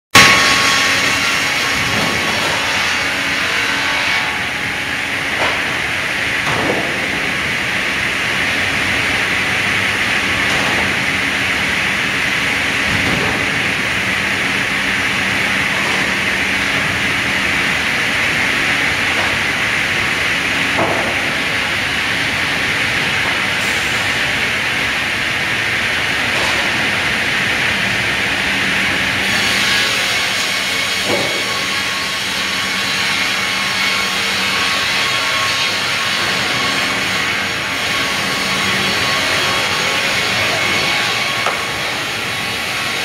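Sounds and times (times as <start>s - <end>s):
sawmill conveyor whirring: 0.2s - 43.0s.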